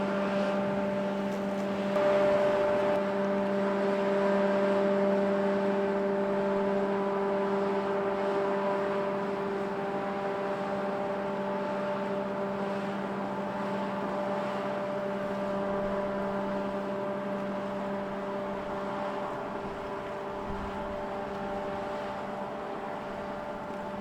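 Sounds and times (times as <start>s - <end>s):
machinery whir with low hum: 0.0s - 24.0s.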